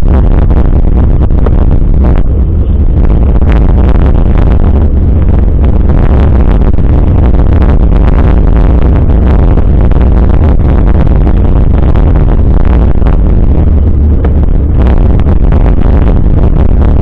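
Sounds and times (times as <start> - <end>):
bicycle ride vibration rumble: 0.0 - 17.0
wind buffeting microphone: 0.0 - 17.0.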